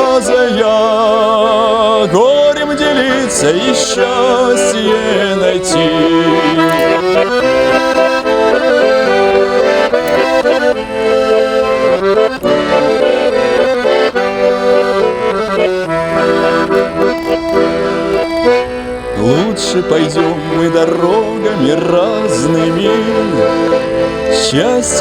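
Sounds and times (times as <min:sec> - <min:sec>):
accordion playing chords and melody: 0:00.0 - 0:25.0.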